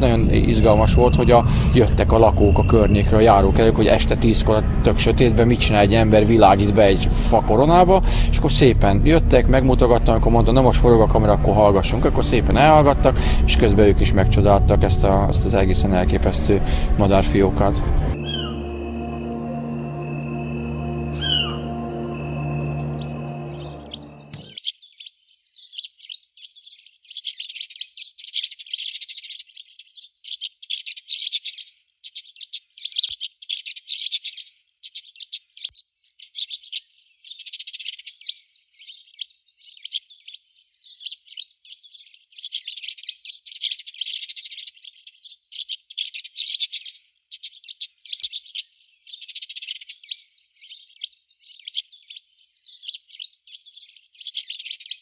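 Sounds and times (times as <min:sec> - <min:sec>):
sparrows chirping: 0:00.0 - 0:08.4, 0:16.7 - 0:18.6, 0:19.6 - 0:55.0.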